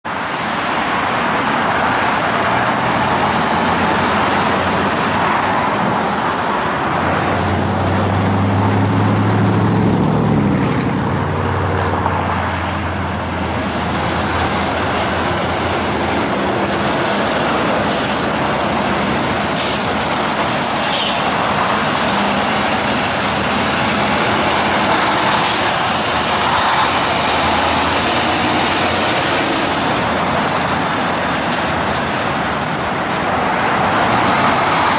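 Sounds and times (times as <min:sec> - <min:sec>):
highway traffic rushing: 0:00.0 - 0:34.9
truck engine passing by: 0:00.1 - 0:34.9.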